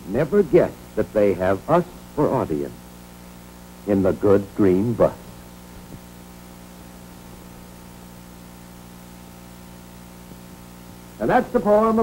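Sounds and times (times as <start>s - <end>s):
constant hiss: 0.0s - 12.0s
electrical hum: 0.0s - 12.0s.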